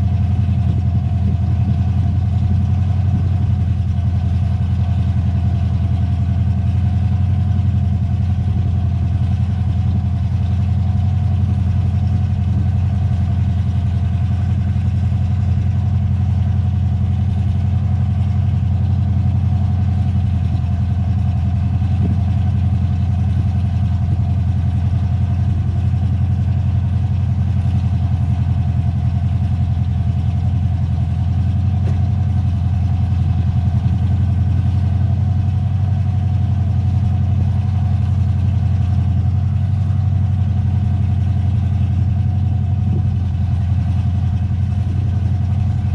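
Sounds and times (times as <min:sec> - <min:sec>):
vehicle engine idling: 0:00.0 - 0:45.9.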